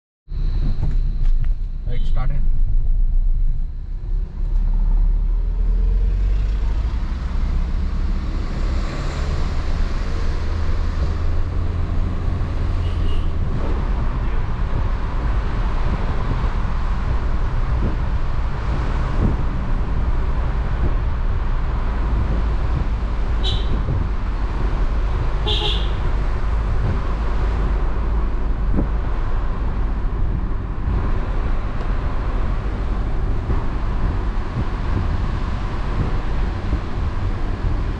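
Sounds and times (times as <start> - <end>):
car engine and tyre rumble: 0.3 - 37.9.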